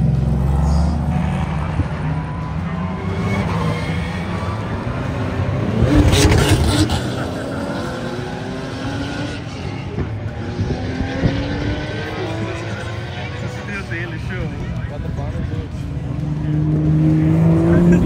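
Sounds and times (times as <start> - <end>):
race car engines at speed: 0.0 - 18.0.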